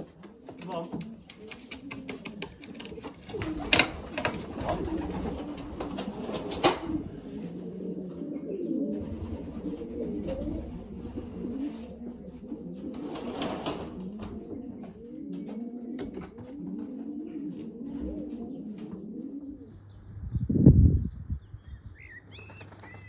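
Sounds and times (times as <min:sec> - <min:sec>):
pigeons cooing: 0:00.0 - 0:20.1.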